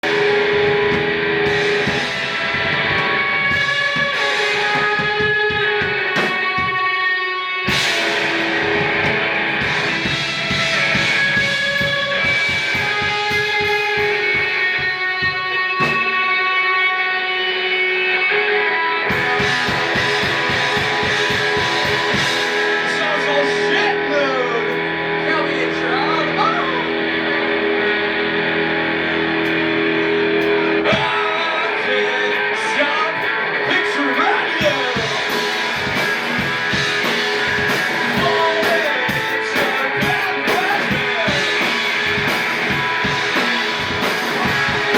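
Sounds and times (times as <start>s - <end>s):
drum kit: 0.0s - 16.8s, 19.0s - 44.9s
electric guitar: 0.0s - 44.9s.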